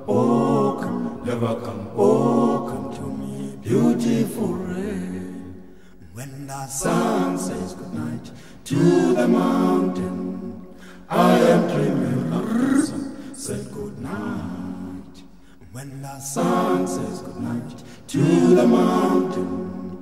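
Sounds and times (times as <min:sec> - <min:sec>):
voices singing a cappella: 0:00.0 - 0:20.0.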